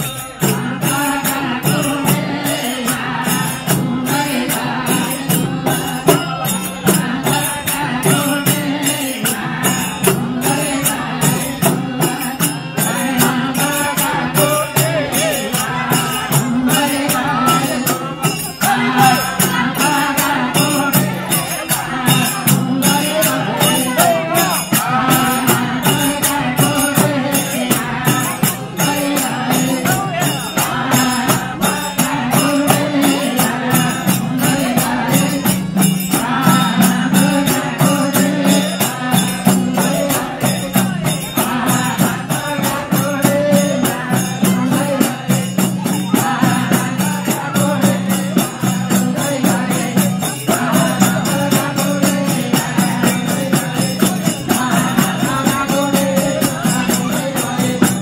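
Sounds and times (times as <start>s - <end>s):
fast percussion beat: 0.0s - 58.0s
person singing devotional song: 0.0s - 58.0s.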